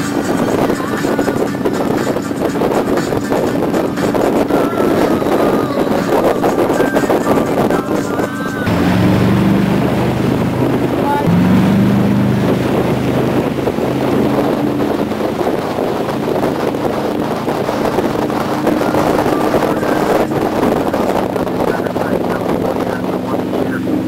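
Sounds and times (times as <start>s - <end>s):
boat engine humming: 0.0s - 24.0s
rush of boat wake: 0.0s - 24.0s
wind buffeting microphone: 0.0s - 24.0s.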